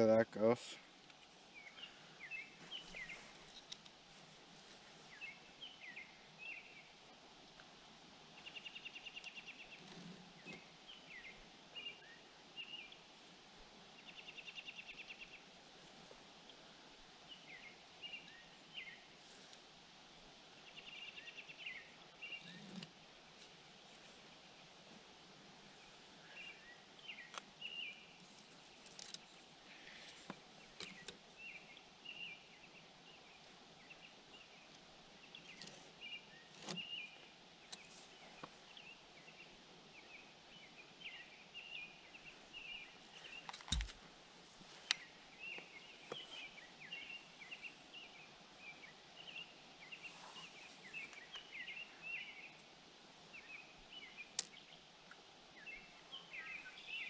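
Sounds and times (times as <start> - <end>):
small birds chirping: 0.0 - 4.0, 4.9 - 7.7, 8.3 - 19.7, 20.3 - 57.0.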